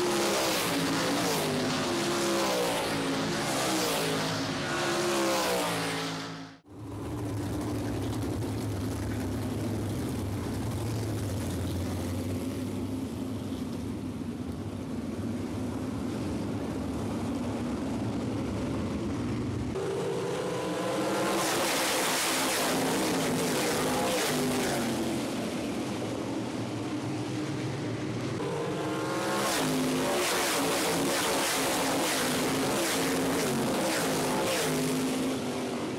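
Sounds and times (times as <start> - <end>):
racing car engines: 0.0 - 35.9.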